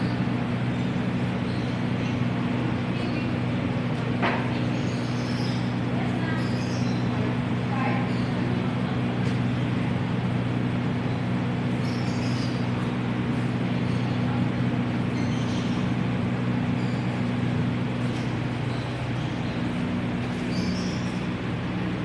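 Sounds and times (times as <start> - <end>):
low mechanical hum with tones: 0.0 - 22.0.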